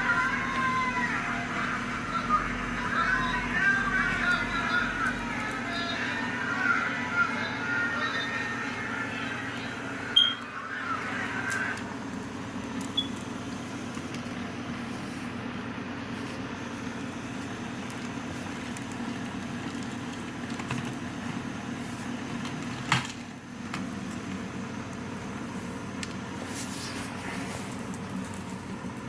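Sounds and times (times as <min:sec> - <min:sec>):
steady low machine hum: 0:00.0 - 0:29.0.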